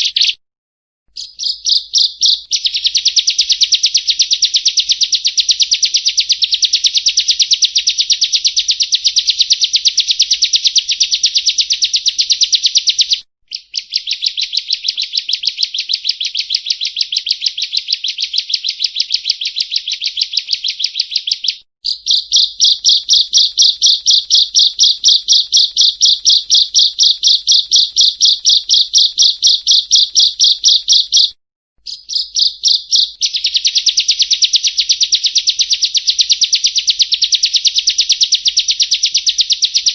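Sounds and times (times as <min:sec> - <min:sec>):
bird trilling song: 0:00.0 - 0:00.4, 0:01.1 - 0:39.9.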